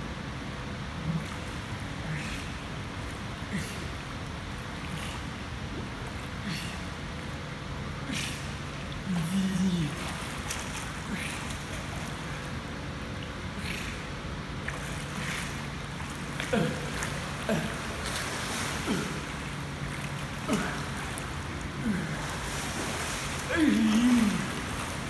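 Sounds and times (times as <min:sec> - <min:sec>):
steady low hum: 0:00.0 - 0:25.0
water splashing in pool: 0:00.8 - 0:25.0.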